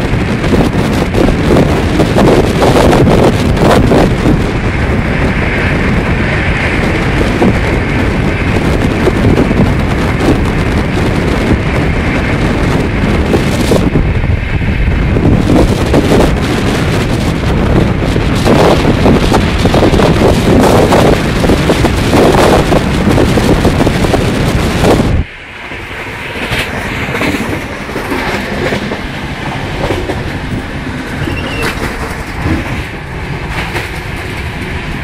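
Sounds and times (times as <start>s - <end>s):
train rumbling on track: 0.0s - 35.0s
wind buffeting microphone: 0.0s - 35.0s.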